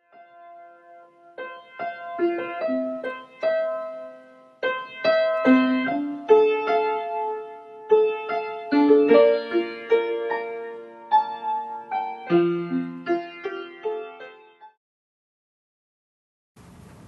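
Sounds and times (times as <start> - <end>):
slow solo piano melody: 0.0 - 14.8.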